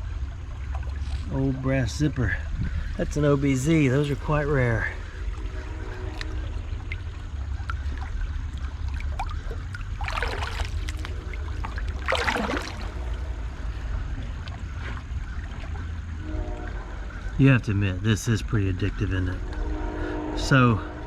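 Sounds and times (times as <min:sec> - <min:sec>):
creek water splashing: 0:00.0 - 0:17.4
steady low rumble: 0:00.0 - 0:21.0.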